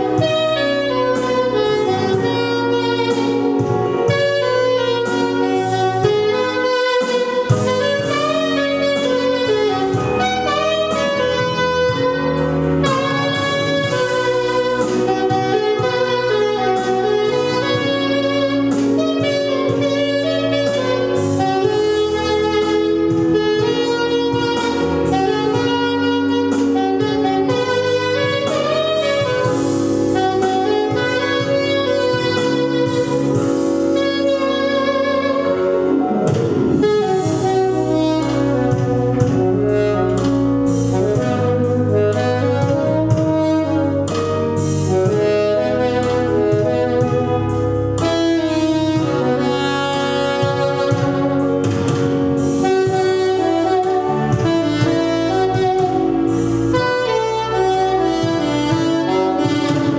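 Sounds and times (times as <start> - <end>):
jazz saxophone melody: 0.0 - 59.9
steady bass line: 0.0 - 59.9.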